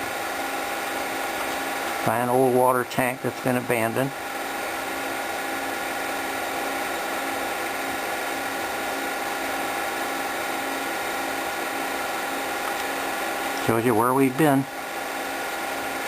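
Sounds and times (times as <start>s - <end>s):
constant humming tones: 0.0s - 16.0s
film projector motor whirring: 0.0s - 16.0s.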